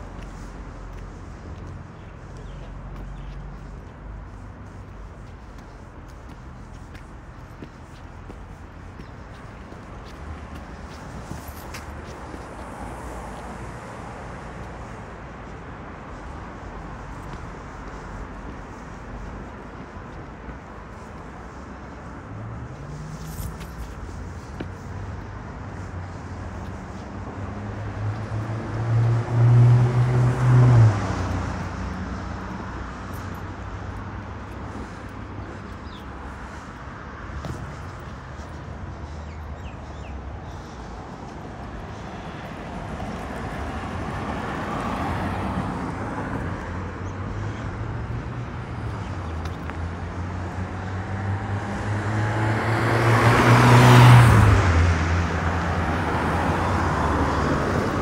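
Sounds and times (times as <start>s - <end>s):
motor vehicles passing: 0.0s - 58.0s
steady traffic noise: 0.0s - 58.0s.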